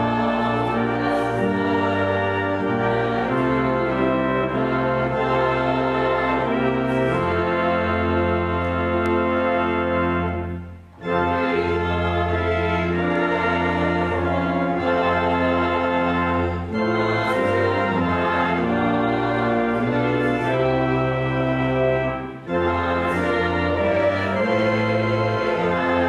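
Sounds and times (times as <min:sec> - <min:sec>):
church organ playing chords: 0:00.0 - 0:26.0.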